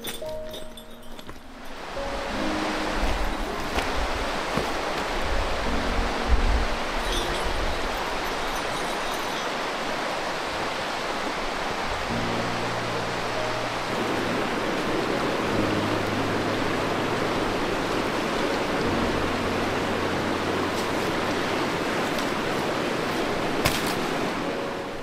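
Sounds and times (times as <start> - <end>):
river whitewater rushing: 0.0 - 25.0.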